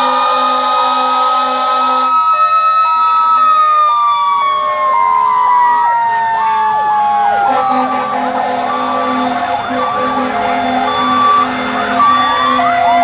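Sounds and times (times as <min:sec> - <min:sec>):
long rising and falling siren: 0:00.0 - 0:13.0
two-pitch sirens: 0:00.0 - 0:13.0.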